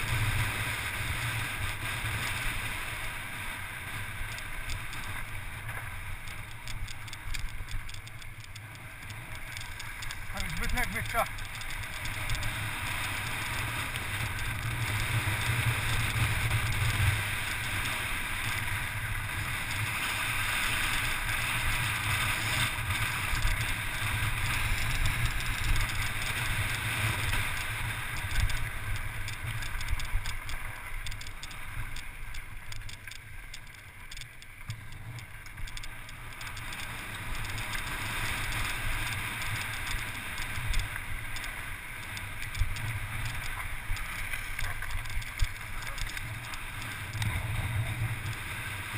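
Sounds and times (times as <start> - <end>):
tyres rumbling on loose gravel: 0.0 - 48.9.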